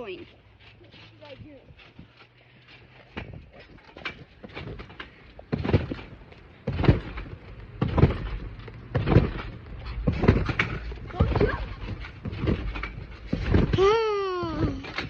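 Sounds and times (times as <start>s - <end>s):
heavy thuds on trampoline: 0.9s - 15.0s.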